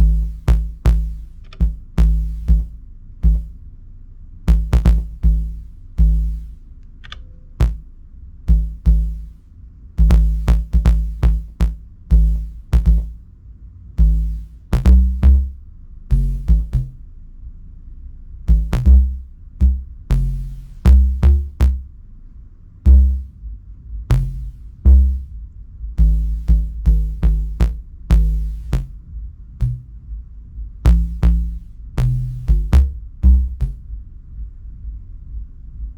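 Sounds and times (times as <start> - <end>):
deep synth bass notes: 0.0 - 35.5.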